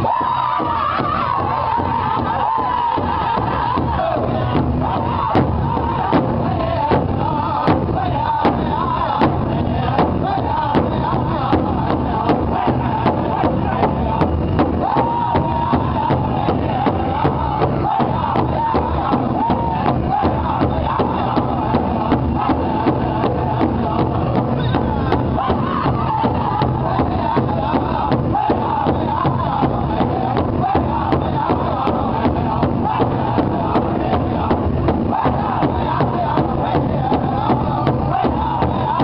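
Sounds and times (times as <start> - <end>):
group singing in high voices: 0.0 - 39.0
large drum beating: 0.0 - 39.0.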